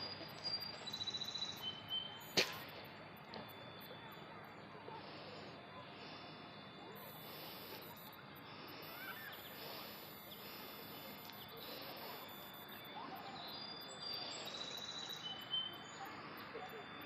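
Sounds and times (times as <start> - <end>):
whistled bird notes: 0.0 - 5.5, 6.2 - 10.4, 11.0 - 17.0
bird chirps: 0.0 - 17.0
faint outdoor ambience: 0.0 - 17.0.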